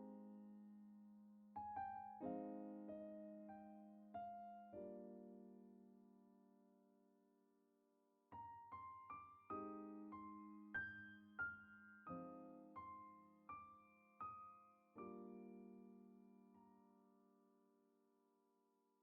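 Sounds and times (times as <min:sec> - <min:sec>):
slow piano melody: 0:00.0 - 0:07.1, 0:08.3 - 0:17.6.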